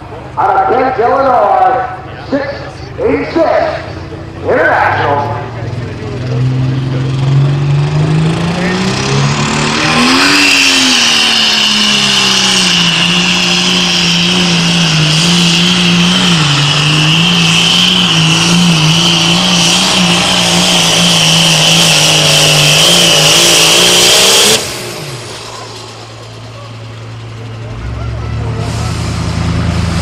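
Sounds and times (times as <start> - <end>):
tractor diesel engine at full power: 0.0 - 30.0
high whine: 0.4 - 27.8.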